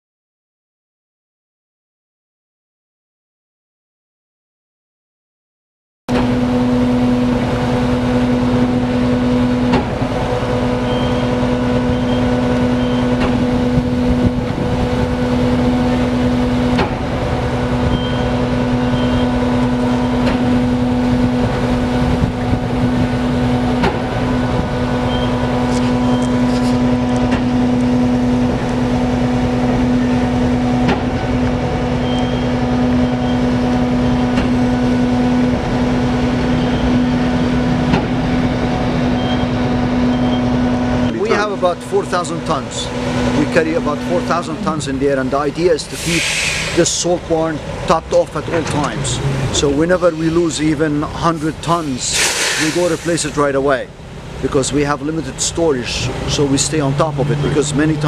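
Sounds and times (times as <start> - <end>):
heavy diesel engine running: 6.1 - 58.0.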